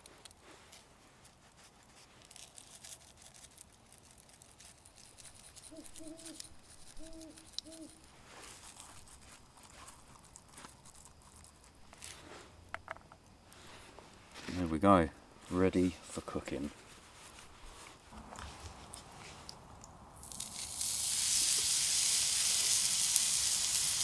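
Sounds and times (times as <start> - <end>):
rustling and crinkling wrapping: 0.0 - 12.6, 13.4 - 14.8, 15.4 - 20.8.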